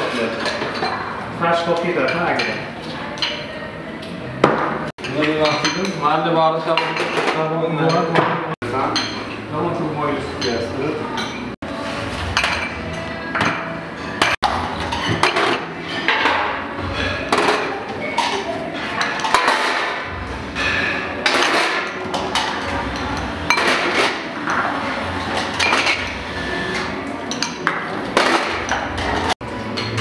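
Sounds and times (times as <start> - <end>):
dishes and utensils clattering: 0.0 - 30.0.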